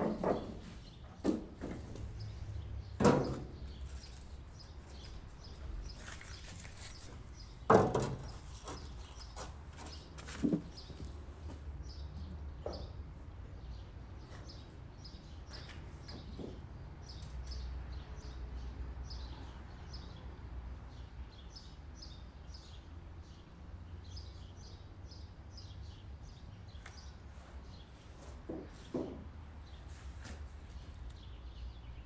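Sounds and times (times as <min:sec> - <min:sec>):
small birds chirping: 0:00.3 - 0:01.3, 0:02.0 - 0:20.3, 0:20.9 - 0:28.1, 0:28.7 - 0:32.0.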